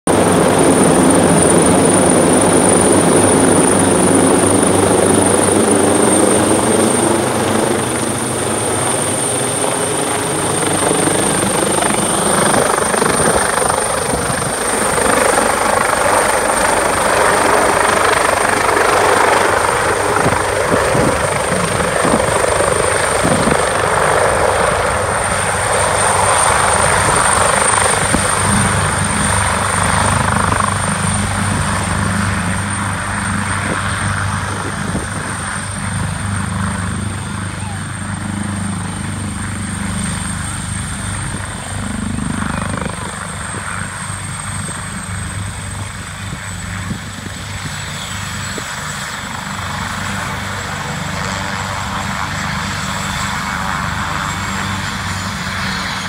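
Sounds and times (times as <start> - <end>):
helicopter rotor and engines: 0.0 - 56.0.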